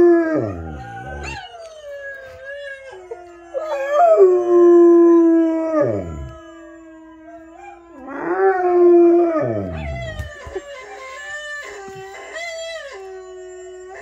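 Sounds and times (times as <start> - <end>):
dog howling: 0.0 - 14.0
dogs howling on television: 0.0 - 14.0.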